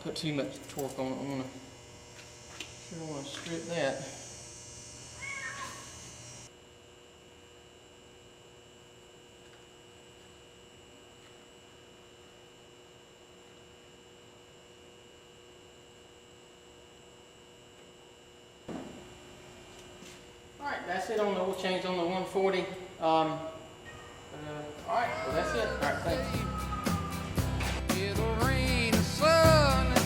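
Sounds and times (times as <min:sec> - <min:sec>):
faint electrical hum: 0:00.0 - 0:26.3.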